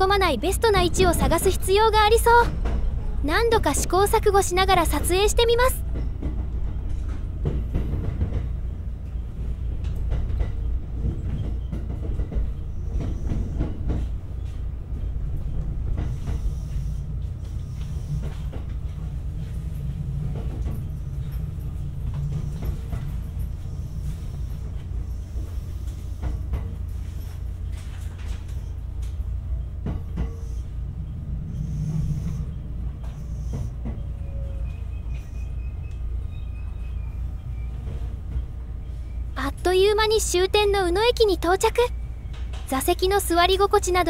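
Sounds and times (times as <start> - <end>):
rail joint clacks: 0.0 - 44.0
train wheels rumbling on rails: 0.0 - 44.0.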